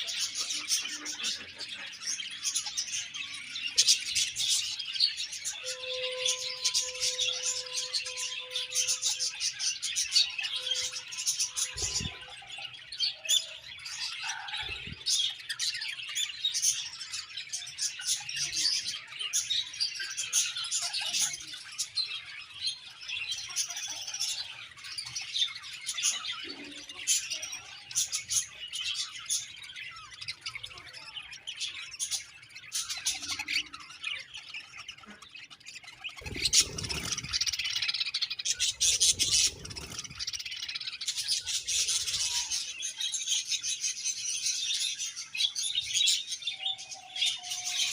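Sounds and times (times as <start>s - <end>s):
budgerigars chirping and chattering: 0.0s - 47.9s.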